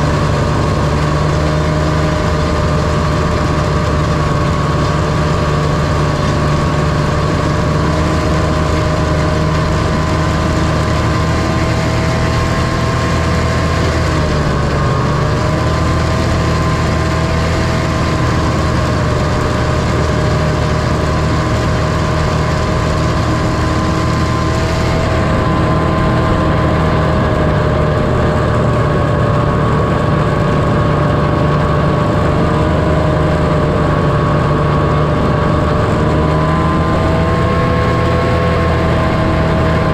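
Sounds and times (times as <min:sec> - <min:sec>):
snowmobile two-stroke engine running: 0:00.0 - 0:39.9.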